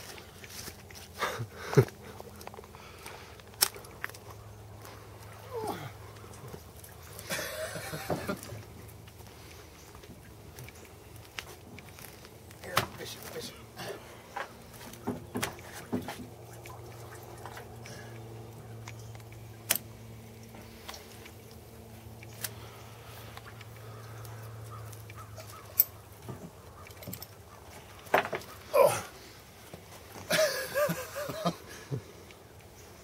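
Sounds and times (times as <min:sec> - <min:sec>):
faint steady low hum: 0:00.0 - 0:33.0.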